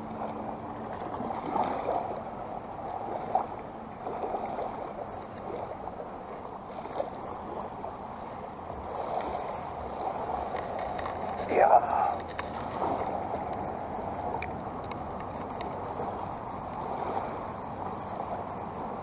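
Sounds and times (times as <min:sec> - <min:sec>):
seawater lapping: 0:00.0 - 0:19.0.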